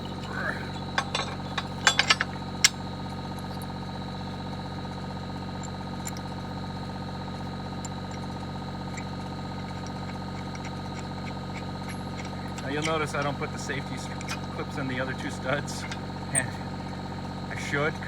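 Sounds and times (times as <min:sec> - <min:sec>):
excavator engine idling: 0:00.0 - 0:18.0.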